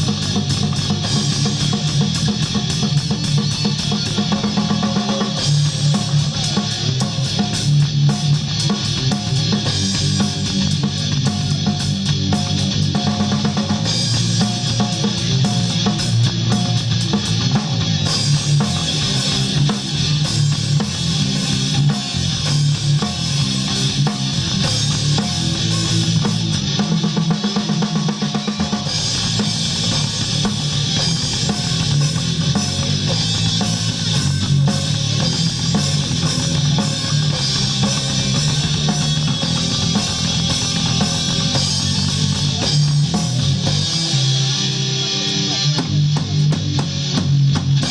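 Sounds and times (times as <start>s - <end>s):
bass guitar: 0.0s - 47.9s
drum kit: 0.0s - 47.9s
electric guitars: 0.0s - 47.9s
live rock band: 0.0s - 47.9s.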